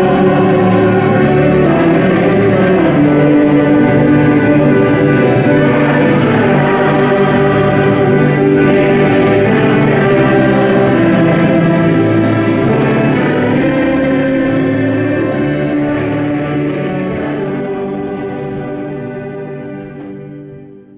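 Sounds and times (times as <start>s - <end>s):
mixed choir singing gospel: 0.0s - 20.6s
accordion: 0.0s - 20.9s
fiddles: 0.0s - 20.9s
saxophone: 0.0s - 20.9s.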